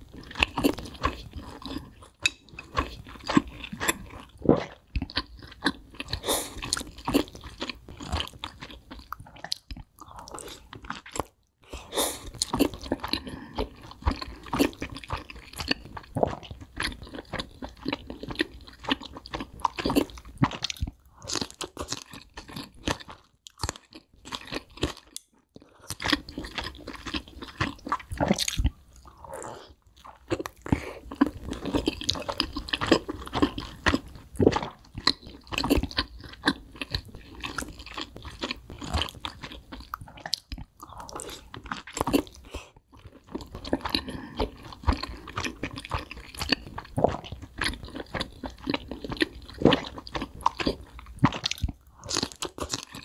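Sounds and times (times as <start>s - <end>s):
person chewing crispy chicken: 0.0s - 53.0s.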